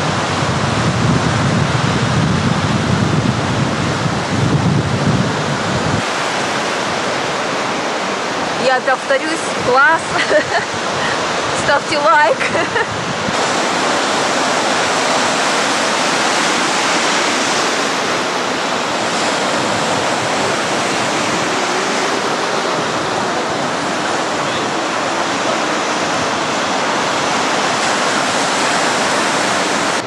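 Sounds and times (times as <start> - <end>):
waves breaking: 0.0 - 30.0.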